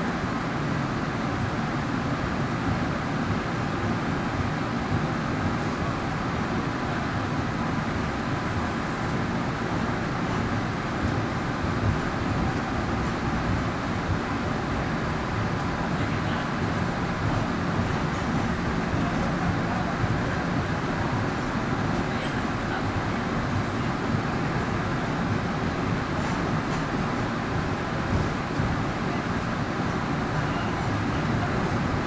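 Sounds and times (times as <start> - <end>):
faint hum: 0.0 - 32.0
train car rumble: 0.0 - 32.0.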